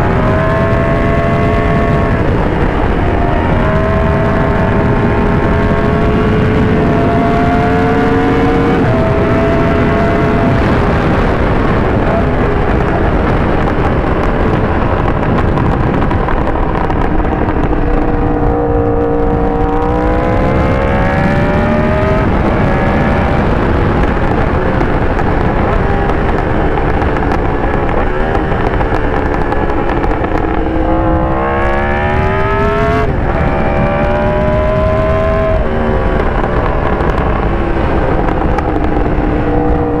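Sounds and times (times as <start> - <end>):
motorcycle engine revving: 0.0 - 40.0
wind rush: 0.0 - 40.0.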